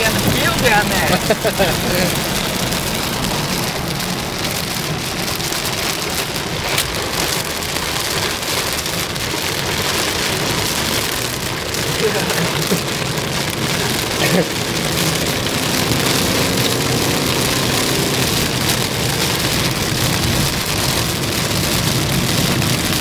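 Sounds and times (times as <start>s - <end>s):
heavy rain on car roof: 0.0s - 23.0s.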